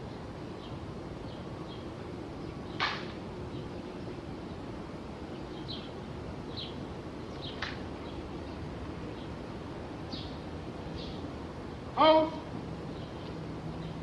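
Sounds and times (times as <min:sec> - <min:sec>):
small birds chirping: 0:00.0 - 0:14.0
steady low hiss: 0:00.0 - 0:14.0.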